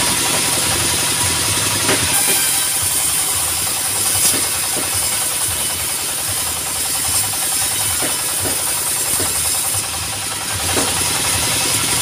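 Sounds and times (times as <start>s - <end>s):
diesel engine pulse: 0.0s - 12.0s
saw blade cutting log: 0.0s - 12.0s.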